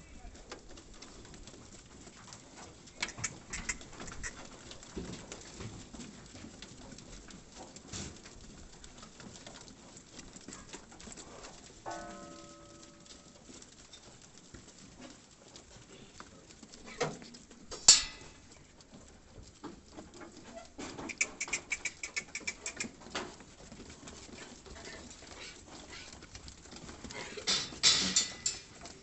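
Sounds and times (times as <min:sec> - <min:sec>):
goats shuffling on dirt: 0:00.0 - 0:29.0.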